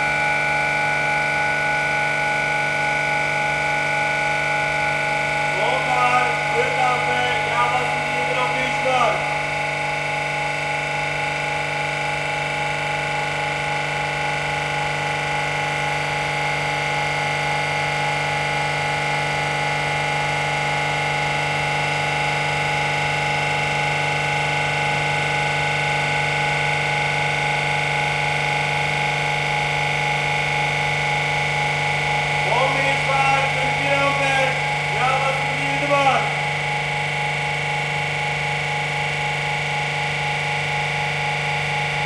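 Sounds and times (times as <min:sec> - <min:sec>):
refrigeration compressor humming: 0:00.0 - 0:42.0.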